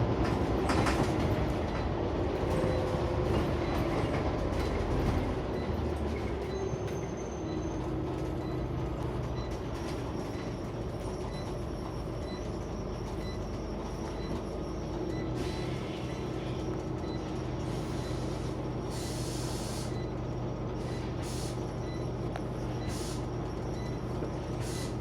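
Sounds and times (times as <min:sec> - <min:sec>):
bus body rattles: 0:00.0 - 0:25.0
bus engine and road drone: 0:00.0 - 0:25.0.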